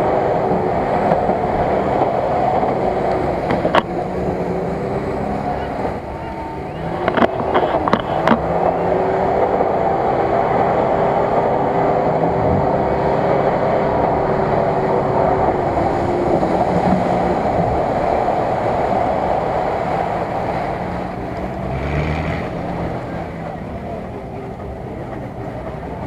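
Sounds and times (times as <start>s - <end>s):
off-road vehicle engine under load: 0.0s - 26.0s
water churning and splashing: 0.0s - 26.0s.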